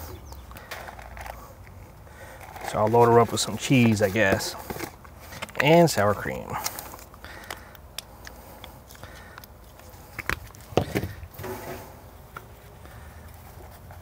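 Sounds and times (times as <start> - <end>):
handling clicks and rustles: 0.0 - 14.0.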